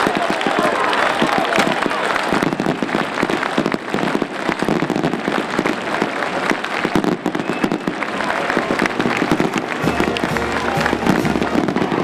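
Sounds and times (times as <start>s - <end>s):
firecrackers crackling: 0.0s - 12.0s.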